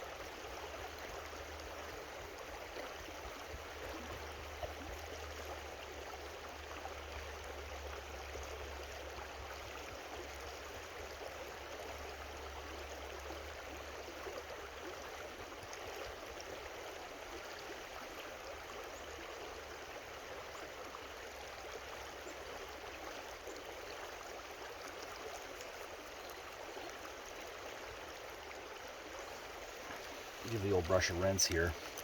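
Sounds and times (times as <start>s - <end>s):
creek water running over rocks: 0.0s - 32.0s.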